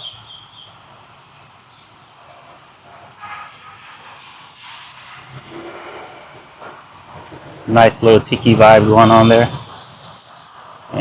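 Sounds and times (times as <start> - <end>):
street traffic hiss: 0.0 - 11.0.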